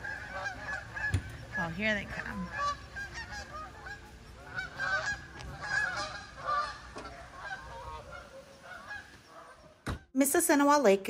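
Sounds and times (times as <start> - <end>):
geese honking: 0.0 - 10.1.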